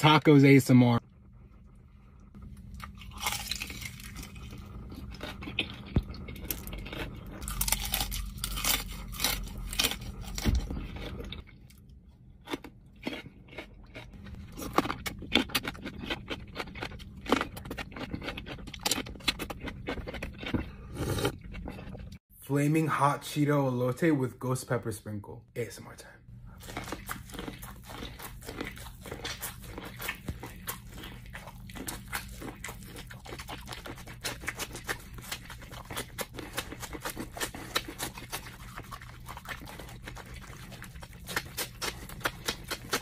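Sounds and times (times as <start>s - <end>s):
biting and chewing: 2.4s - 22.2s, 26.5s - 43.0s.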